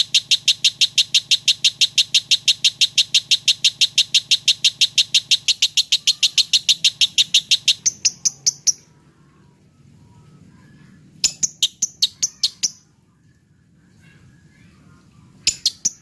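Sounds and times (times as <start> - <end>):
lovebird chirping trill: 0.0 - 8.9, 10.0 - 12.9, 14.4 - 16.0.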